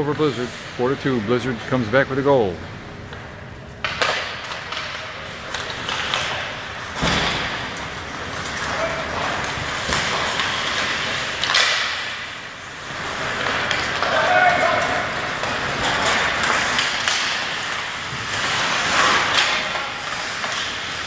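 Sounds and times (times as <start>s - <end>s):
skates scraping on ice: 0.2s - 21.0s
sharp knocks of sticks and puck: 3.1s - 21.0s.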